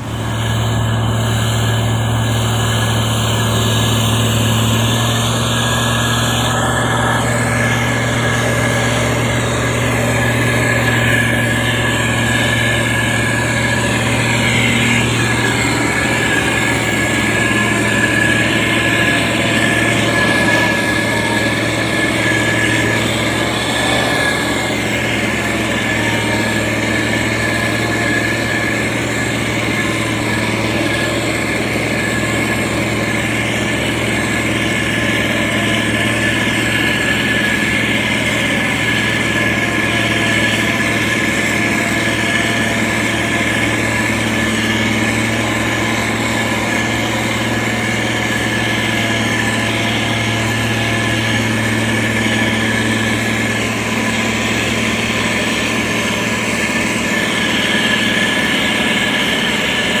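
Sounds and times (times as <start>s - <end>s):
diesel engine hum: 0.0s - 60.0s
high whine: 0.0s - 60.0s.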